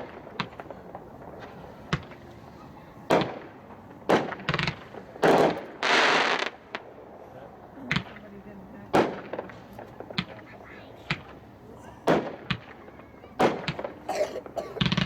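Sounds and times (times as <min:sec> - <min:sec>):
fireworks bangs: 0:00.0 - 0:07.2, 0:07.9 - 0:15.0.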